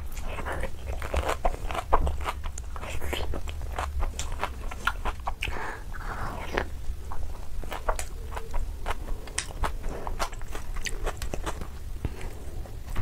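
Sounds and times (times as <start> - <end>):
steady low hum: 0.0 - 13.0
wet chewing smacks: 0.1 - 13.0.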